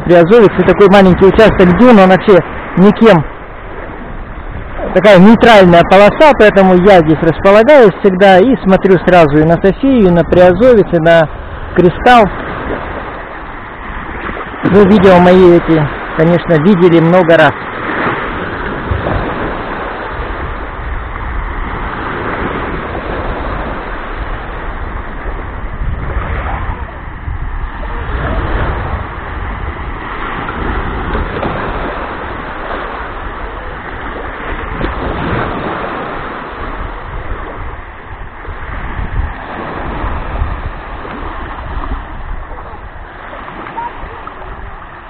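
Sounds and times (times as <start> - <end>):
small waves washing on sand: 0.0 - 45.0
wind rumbling on microphone: 0.0 - 45.0.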